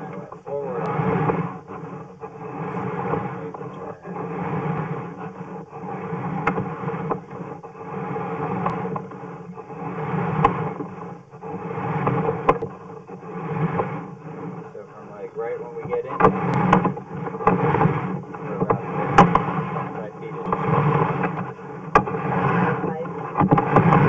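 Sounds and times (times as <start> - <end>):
cable rubbing and scraping: 0.0 - 24.0.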